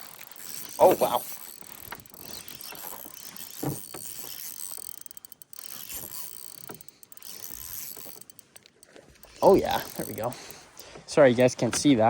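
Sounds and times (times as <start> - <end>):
fishing reel ratcheting: 0.0 - 10.8.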